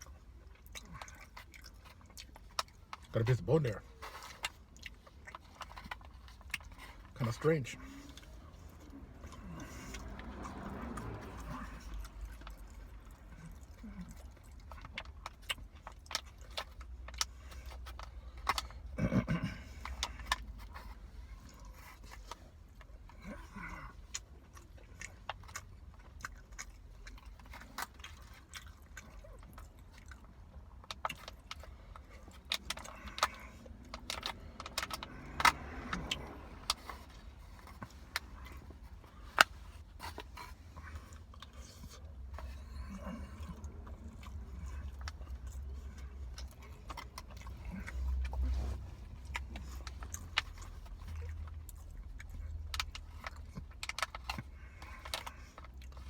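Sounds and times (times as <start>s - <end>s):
chewing: 0.0s - 56.0s
low steady rumble: 0.0s - 56.0s.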